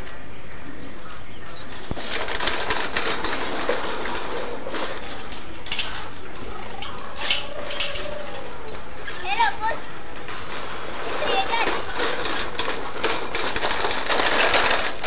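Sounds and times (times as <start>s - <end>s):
plastic toy vehicles clattering: 1.7s - 15.0s.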